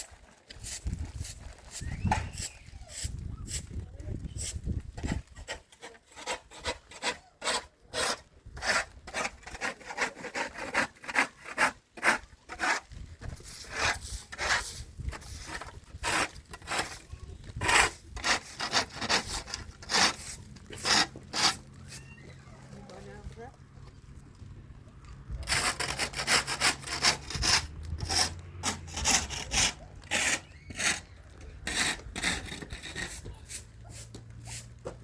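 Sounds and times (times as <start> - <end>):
rasping scraping strokes: 0.0 - 22.1, 25.4 - 35.0.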